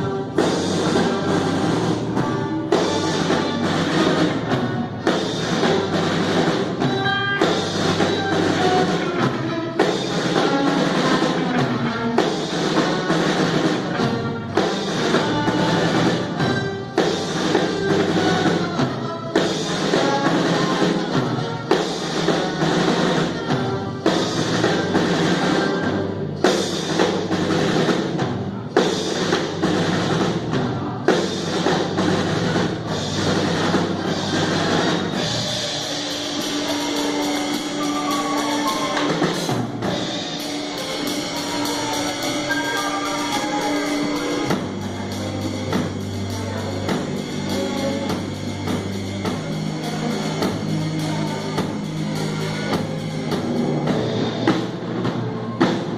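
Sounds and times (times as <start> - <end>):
band playing music: 0.0 - 55.9
drum kit beat: 0.0 - 55.9.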